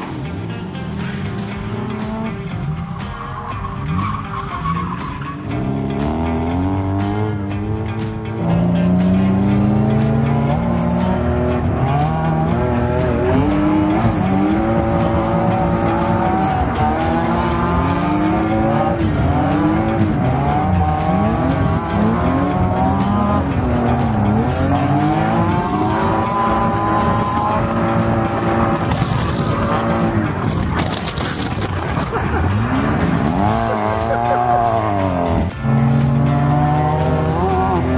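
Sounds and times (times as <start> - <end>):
car engine revving hard: 4.1 - 37.9.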